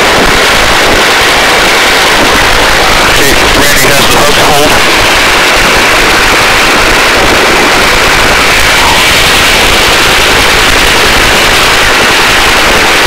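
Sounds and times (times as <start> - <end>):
helicopter engine rushing: 0.0 - 13.0
helicopter rotor blades chopping: 0.0 - 13.0.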